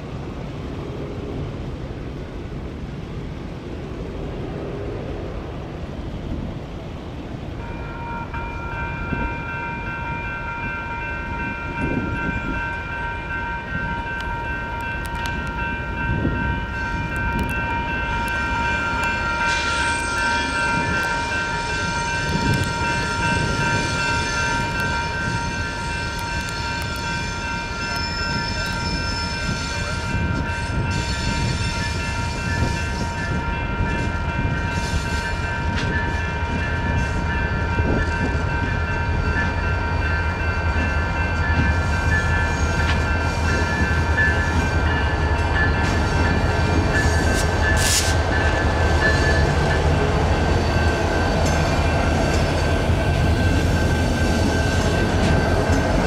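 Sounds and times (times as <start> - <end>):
railroad crossing bell ringing: 7.5 - 56.0.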